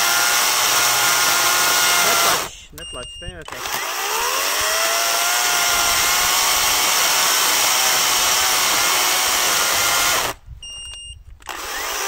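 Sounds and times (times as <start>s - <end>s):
cordless chainsaw cutting log: 0.0s - 2.5s, 3.5s - 10.4s, 11.5s - 12.0s.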